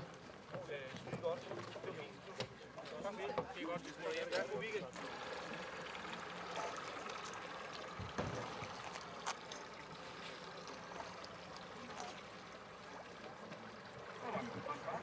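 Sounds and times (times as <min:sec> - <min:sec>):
water lapping around boat: 0:00.0 - 0:15.0.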